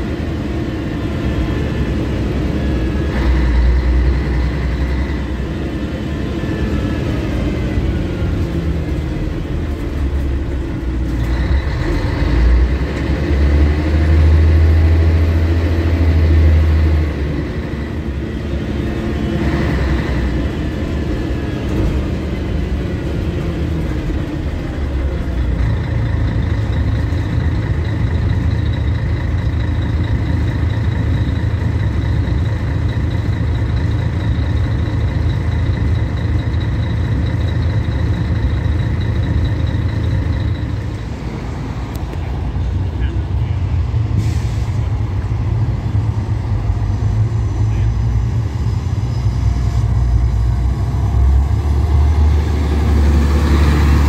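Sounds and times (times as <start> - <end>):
bus diesel engine rumbling: 0.0 - 54.0.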